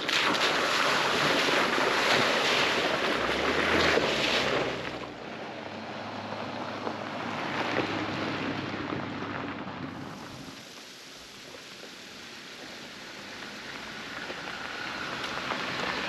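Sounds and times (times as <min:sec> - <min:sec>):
truck driving on dirt road: 0:00.0 - 0:16.0
truck splashing through creek: 0:00.0 - 0:16.0.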